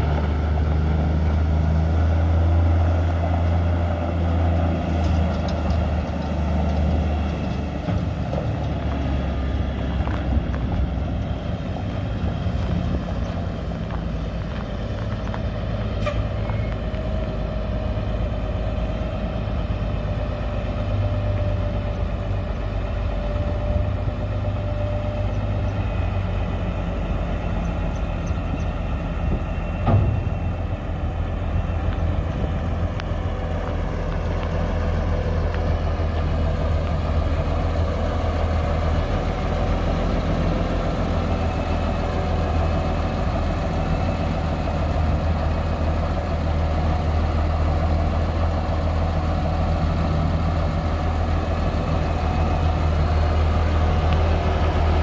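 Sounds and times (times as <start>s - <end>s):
diesel truck engine: 0.0s - 55.0s.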